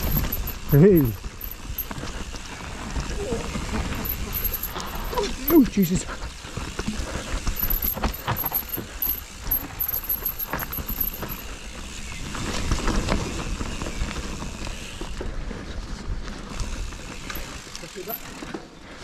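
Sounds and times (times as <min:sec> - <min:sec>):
bike clicks and rattles: 0:00.0 - 0:19.0
bike tyres rumbling on trail: 0:00.0 - 0:19.0.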